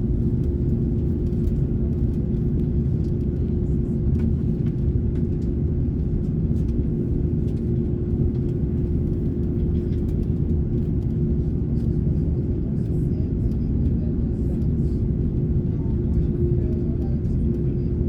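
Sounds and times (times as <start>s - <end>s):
aircraft cabin rumble and hum: 0.0s - 18.0s.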